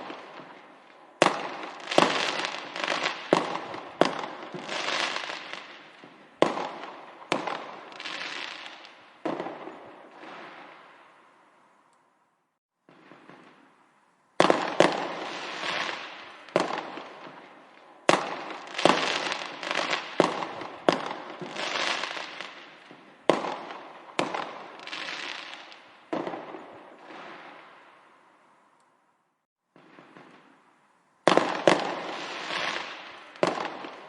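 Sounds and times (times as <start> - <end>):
fireworks bangs and crackling: 0.0 - 11.4, 12.8 - 28.3, 29.7 - 34.0.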